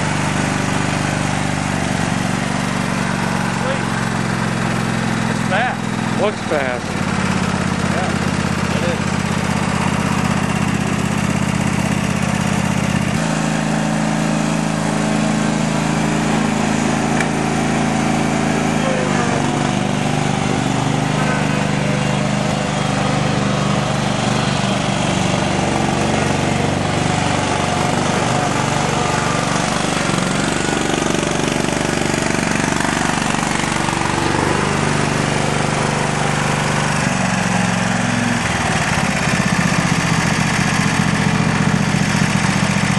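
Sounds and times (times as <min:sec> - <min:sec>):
lawn tractor engine running: 0:00.0 - 0:42.9.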